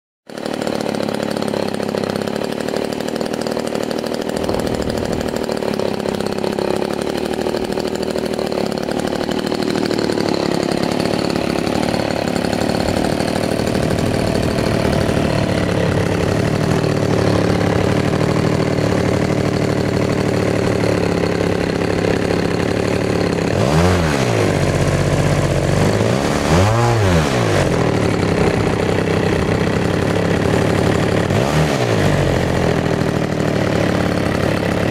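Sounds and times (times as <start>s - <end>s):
model aircraft engine running: 0.3s - 34.9s.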